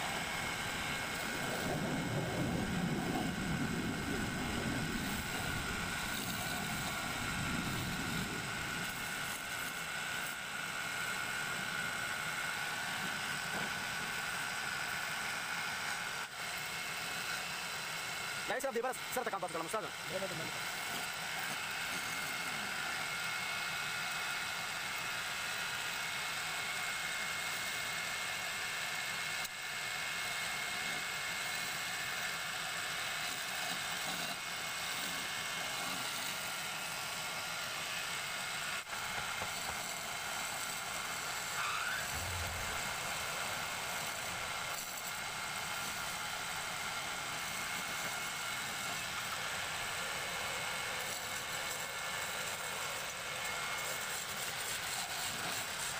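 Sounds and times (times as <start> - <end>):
turning tool cutting wood: 0.0 - 25.0, 30.2 - 55.9
wood lathe running: 0.0 - 25.6, 30.2 - 55.9.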